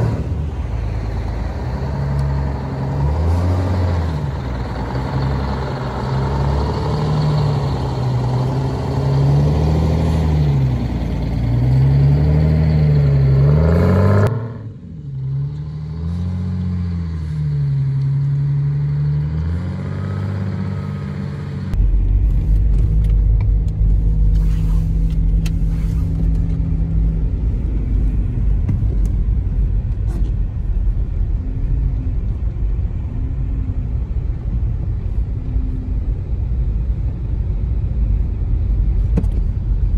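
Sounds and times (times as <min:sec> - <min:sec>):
diesel engine revving: 0:00.0 - 0:39.0
low engine rumble: 0:00.0 - 0:39.9.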